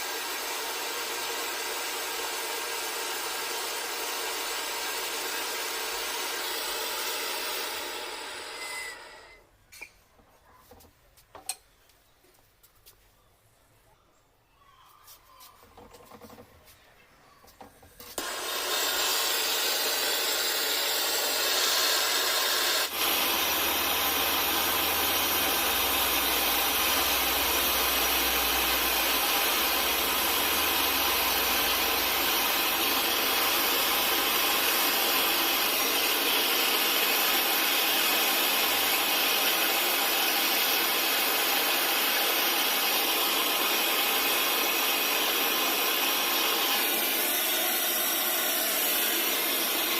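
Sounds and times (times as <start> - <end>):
gas torch hissing: 0.0 - 9.4, 18.0 - 49.9.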